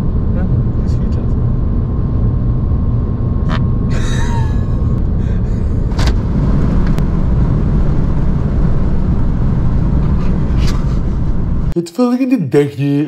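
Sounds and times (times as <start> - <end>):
car engine and tyres rumbling: 0.0 - 11.8.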